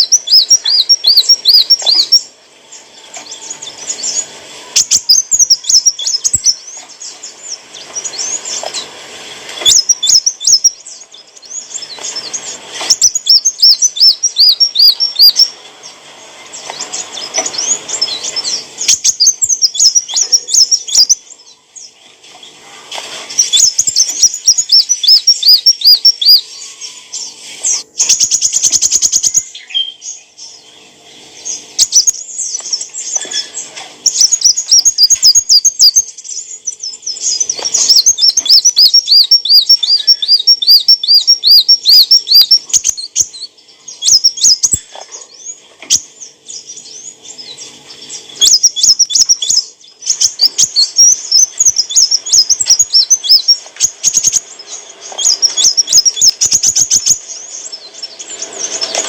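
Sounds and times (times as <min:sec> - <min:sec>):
bird chirping and trilling: 0:00.0 - 0:22.6, 0:23.2 - 0:59.0.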